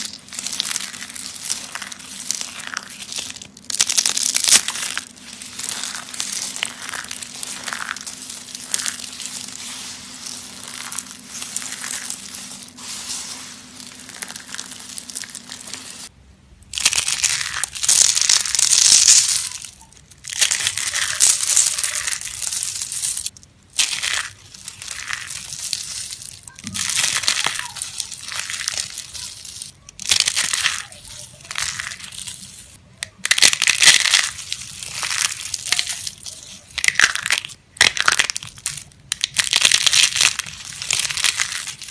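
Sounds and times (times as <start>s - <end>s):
soap crunching: 0.0s - 41.9s.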